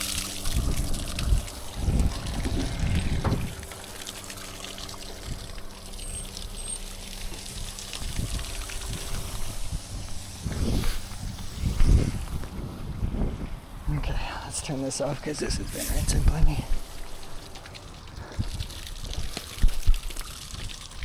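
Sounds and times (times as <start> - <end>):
water pouring from hose: 0.0 - 12.6, 15.5 - 21.0
low rumbling bumps: 0.0 - 20.7.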